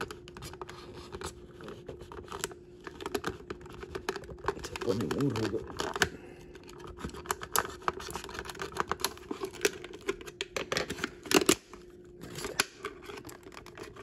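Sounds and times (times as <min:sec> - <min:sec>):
plastic crackling and clicking: 0:00.0 - 0:14.0.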